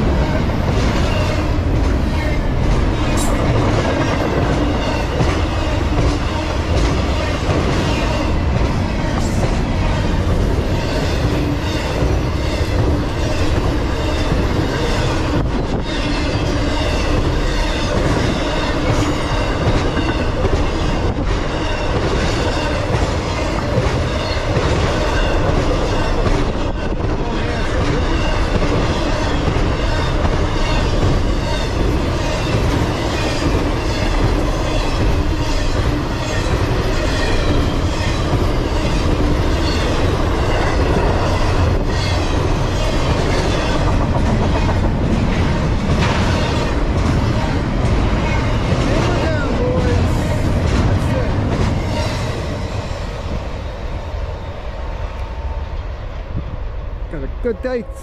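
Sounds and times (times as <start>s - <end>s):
wheels clacking over rail joints: 0.0s - 53.4s
freight train wheels rumbling: 0.0s - 58.0s.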